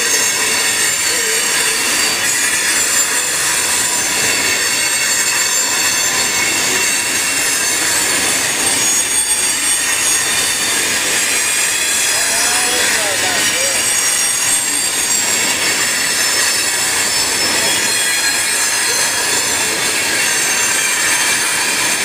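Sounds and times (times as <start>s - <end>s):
freight train wheels on rails: 0.0s - 22.0s.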